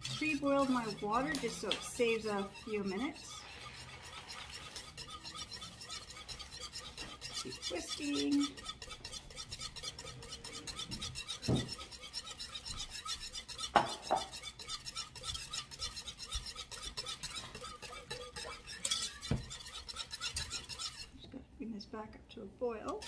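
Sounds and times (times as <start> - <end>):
whisk scraping a saucepan: 0.0 - 21.4, 22.7 - 23.0.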